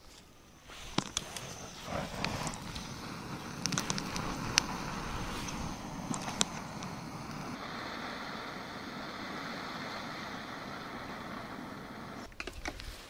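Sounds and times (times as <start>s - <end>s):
gas torch hissing: 0.4s - 12.3s
gas torch igniter click: 0.9s - 12.3s.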